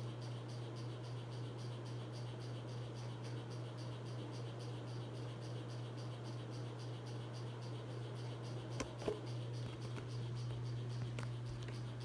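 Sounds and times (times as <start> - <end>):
ceiling fan motor hum: 0.0 - 12.0
fan ticking: 0.0 - 12.0.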